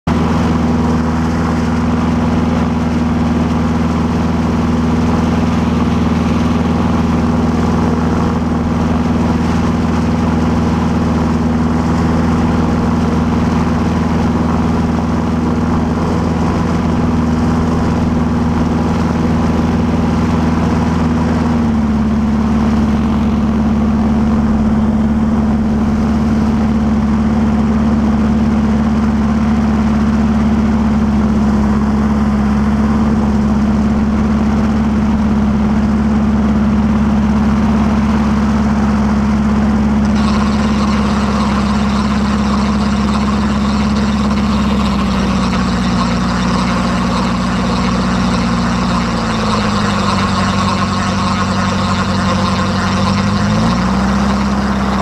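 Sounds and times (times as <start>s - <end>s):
gyrocopter engine running: 0.0s - 55.0s.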